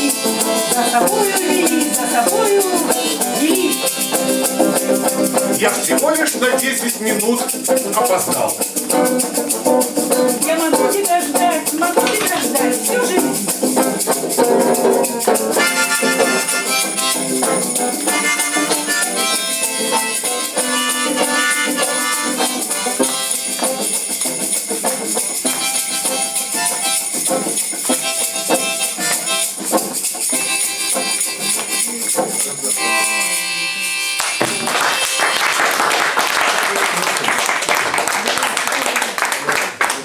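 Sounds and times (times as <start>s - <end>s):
acoustic instrumental melody: 0.0s - 38.5s
shaker rhythm: 0.0s - 39.4s.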